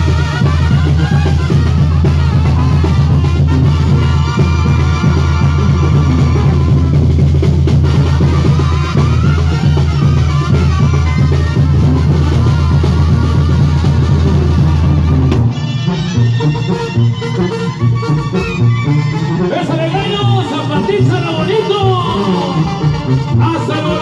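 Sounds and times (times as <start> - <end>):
live band playing loud music: 0.0 - 24.0.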